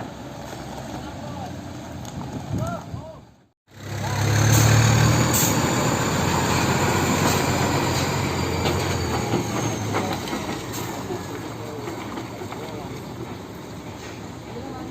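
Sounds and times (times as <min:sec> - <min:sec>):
heavy vehicle rumbling past: 0:00.0 - 0:02.6, 0:03.7 - 0:14.9.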